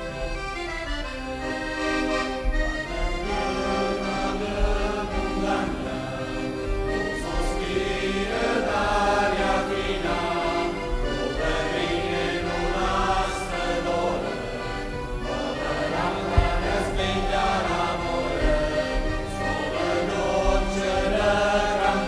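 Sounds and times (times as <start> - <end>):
group singing in chorus: 1.8 - 22.0.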